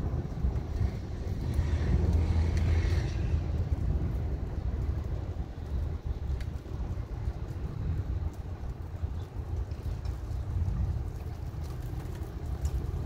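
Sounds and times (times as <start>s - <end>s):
thunder rumbling: 0.0s - 13.0s
wind buffeting microphone: 0.0s - 13.0s.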